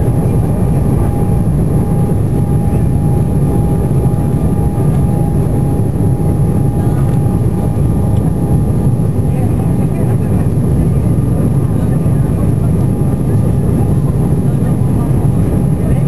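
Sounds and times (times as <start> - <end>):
jet engines roaring: 0.0 - 16.0
thin steady whine: 0.0 - 16.0.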